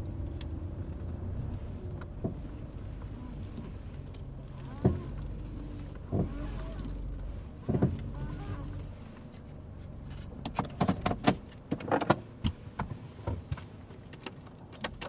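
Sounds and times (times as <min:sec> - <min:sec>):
car engine running: 0:00.0 - 0:14.0
clicks and knocks inside car: 0:00.1 - 0:15.0.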